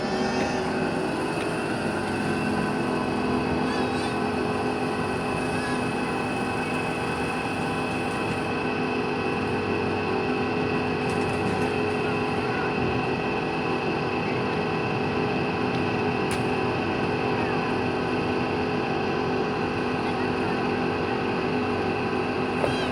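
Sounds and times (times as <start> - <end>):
boat motor droning: 0.0 - 22.9.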